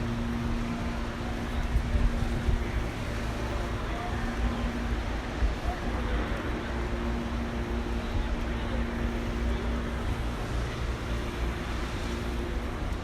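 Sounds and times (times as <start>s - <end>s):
steady low hum: 0.0s - 13.0s
wind rumble on microphone: 0.0s - 13.0s.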